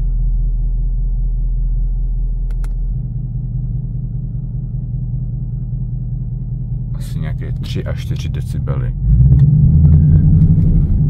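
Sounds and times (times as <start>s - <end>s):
car engine drone inside cabin: 0.0s - 11.0s.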